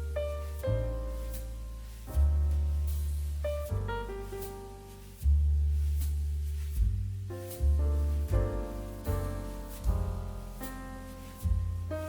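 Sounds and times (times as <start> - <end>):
piano tune with bass line: 0.0 - 12.0.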